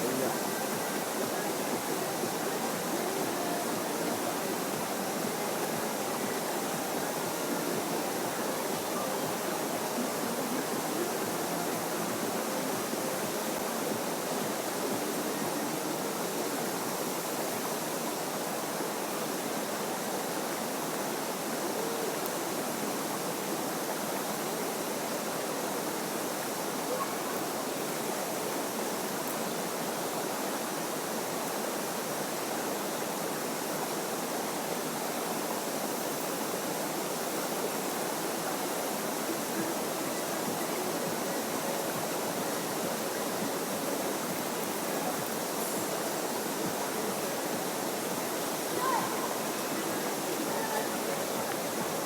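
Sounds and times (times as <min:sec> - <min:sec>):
flowing river water: 0:00.0 - 0:52.0.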